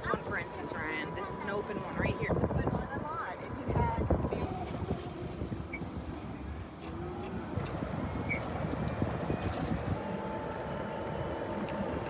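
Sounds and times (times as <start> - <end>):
golf cart tyres rumbling: 0.0 - 12.0.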